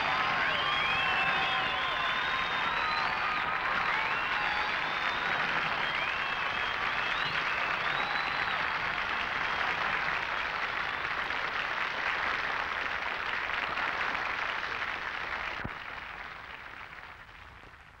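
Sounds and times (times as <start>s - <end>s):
crowd applauding and cheering: 0.0s - 18.0s.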